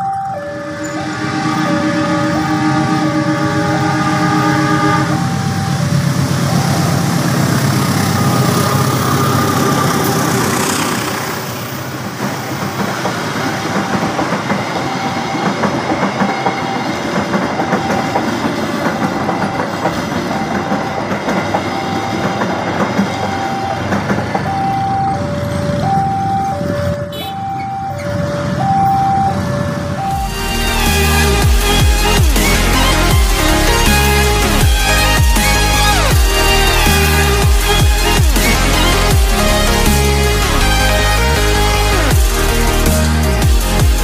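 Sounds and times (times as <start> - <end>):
electronic warning tone: 0.0 - 10.8, 13.4 - 42.1
locomotive passing: 0.0 - 44.0
train passing on rails: 0.0 - 44.0.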